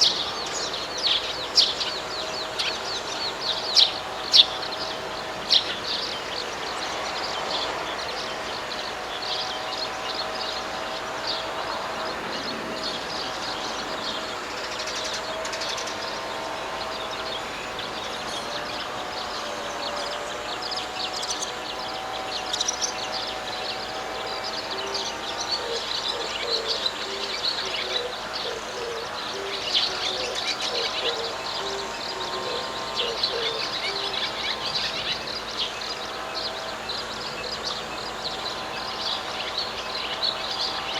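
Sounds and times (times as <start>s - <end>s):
birds chirping: 0.0s - 40.9s
droning chorus: 0.0s - 40.9s.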